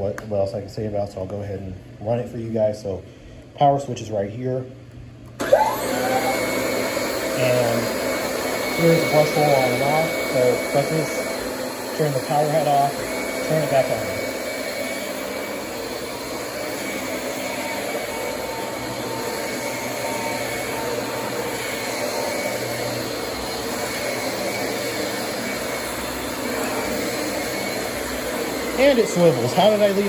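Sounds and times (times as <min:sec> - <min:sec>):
vacuum cleaner running: 0:05.3 - 0:30.0.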